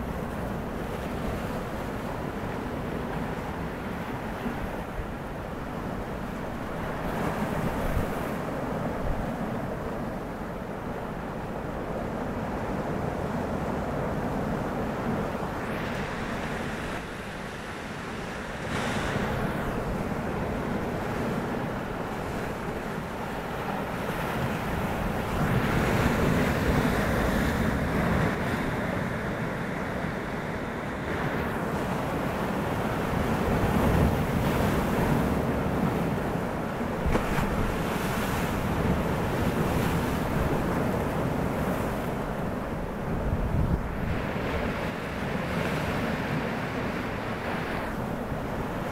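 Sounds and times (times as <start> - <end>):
waves breaking on choppy sea: 0.0 - 48.9.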